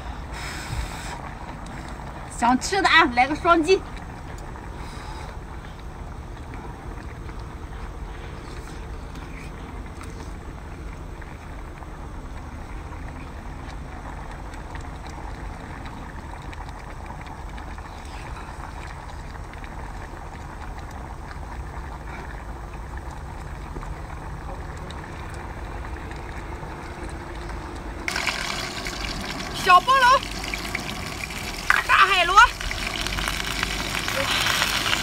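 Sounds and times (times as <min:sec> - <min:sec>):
low rumbling background noise: 0:00.0 - 0:35.0.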